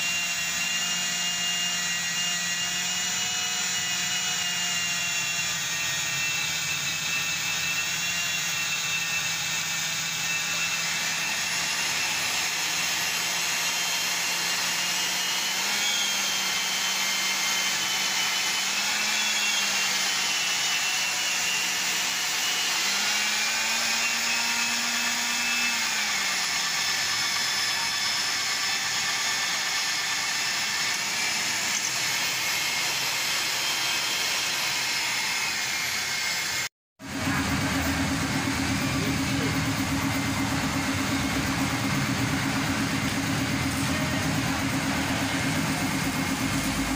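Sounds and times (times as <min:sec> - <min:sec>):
drill boring through steel: 0:00.0 - 0:46.9.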